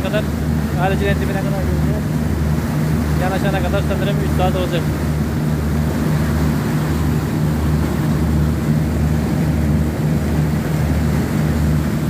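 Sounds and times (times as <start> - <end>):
motor boat engine droning: 0.0 - 12.0
wake water churning: 0.0 - 12.0.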